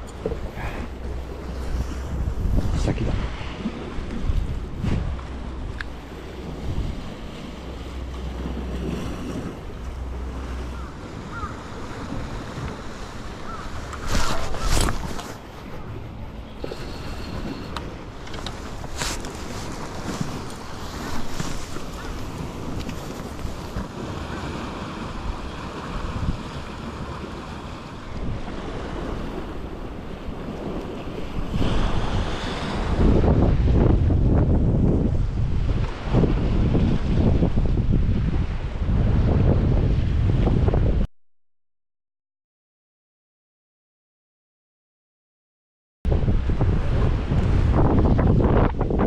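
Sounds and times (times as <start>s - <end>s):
sea waves washing against rocks: 0.0s - 40.6s
wind buffeting microphone: 0.0s - 41.1s, 46.1s - 49.0s.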